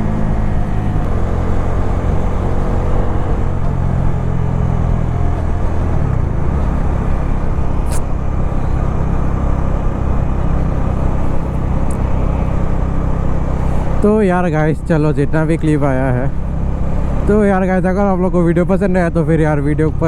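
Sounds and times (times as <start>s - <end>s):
motorcycle engine cruising: 0.0s - 20.0s
road noise: 0.0s - 20.0s.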